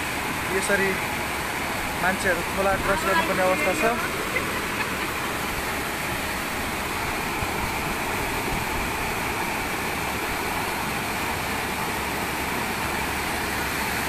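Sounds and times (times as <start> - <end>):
excavator diesel engine running: 0.0 - 14.0
river rushing: 0.0 - 14.0.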